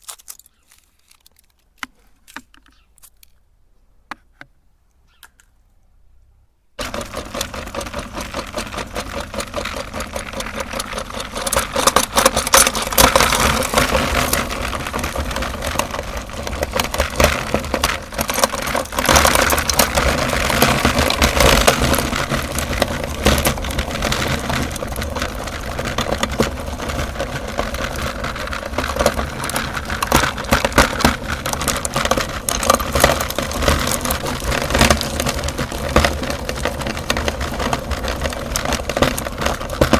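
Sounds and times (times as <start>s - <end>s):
candies crunching in grinder: 0.0s - 2.4s, 6.8s - 39.9s
meat grinder motor humming: 6.8s - 39.9s.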